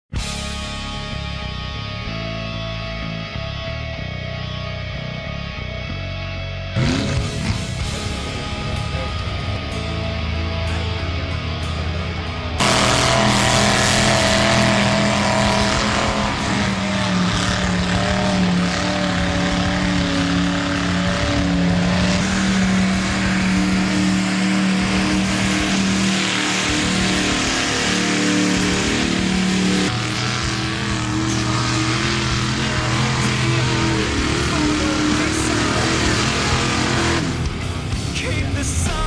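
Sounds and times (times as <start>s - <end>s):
truck engine revving hard: 0.1s - 39.0s.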